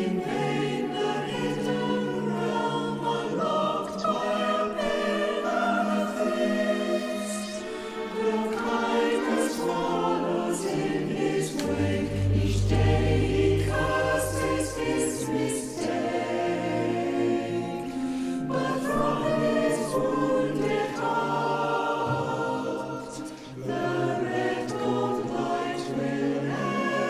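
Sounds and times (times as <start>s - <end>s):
mixed choir singing: 0.0s - 27.0s.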